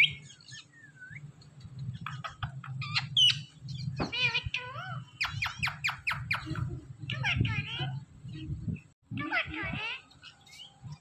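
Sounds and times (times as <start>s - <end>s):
parakeets chirping and squawking: 0.0s - 11.0s.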